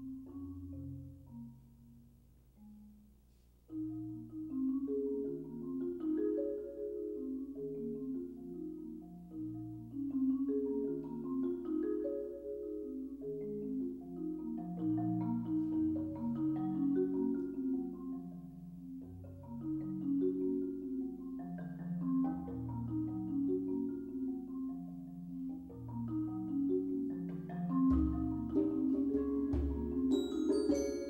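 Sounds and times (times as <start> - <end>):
marimba played with mallets: 0.0 - 3.1, 3.7 - 31.0.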